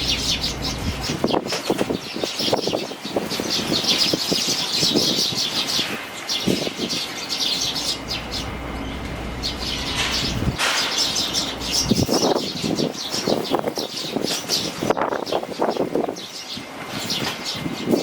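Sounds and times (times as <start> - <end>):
sparrows chirping: 0.0 - 18.0
wind rumbling on microphone: 0.0 - 18.0.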